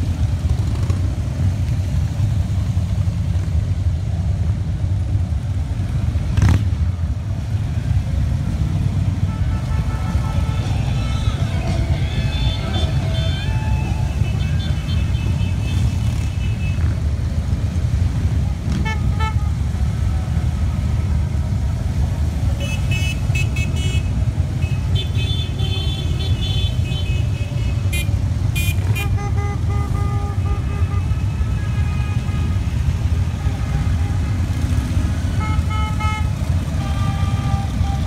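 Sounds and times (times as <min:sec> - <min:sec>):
motorcycle engines rumbling: 0:00.0 - 0:38.0.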